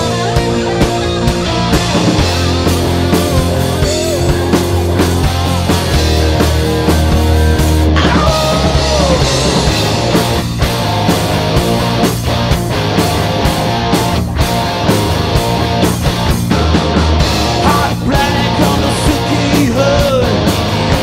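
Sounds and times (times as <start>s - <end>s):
drum kit: 0.0s - 21.0s
hard rock band playing: 0.0s - 21.0s
lead guitar bending: 0.0s - 21.0s.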